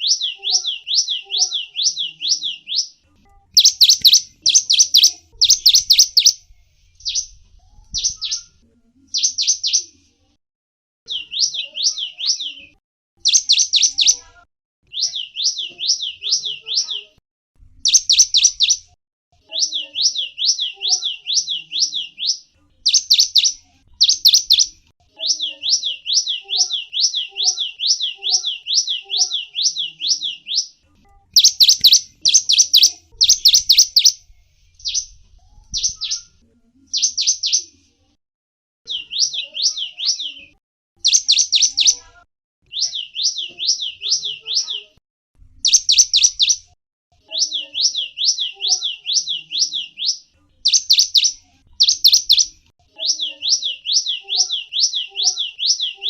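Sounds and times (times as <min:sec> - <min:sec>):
songbird chirping: 0:00.0 - 0:10.2, 0:11.1 - 0:37.9, 0:38.9 - 0:45.0, 0:45.6 - 0:56.0.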